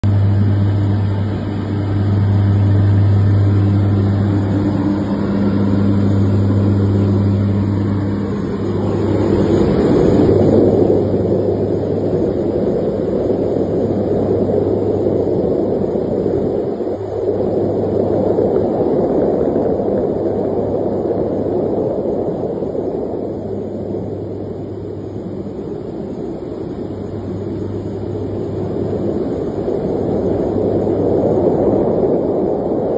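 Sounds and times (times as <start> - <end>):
aircraft cabin engine drone: 0.0 - 32.9.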